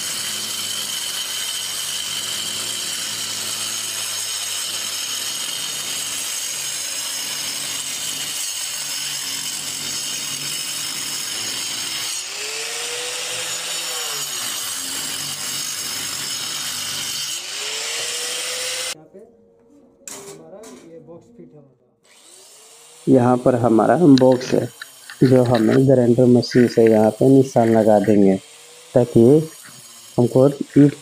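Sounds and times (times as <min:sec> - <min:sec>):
angle grinder cutting brick: 0:00.0 - 0:19.0, 0:22.1 - 0:31.0.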